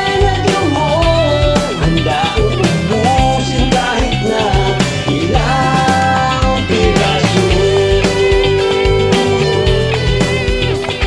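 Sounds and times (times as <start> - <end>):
man singing: 0.0 - 10.2
bass guitar: 0.0 - 11.0
drums: 0.0 - 11.0
electric guitar: 0.0 - 11.0.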